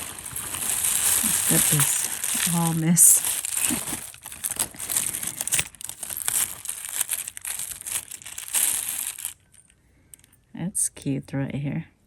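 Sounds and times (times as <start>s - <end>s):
jewelry crinkling and clicking: 0.0s - 10.5s.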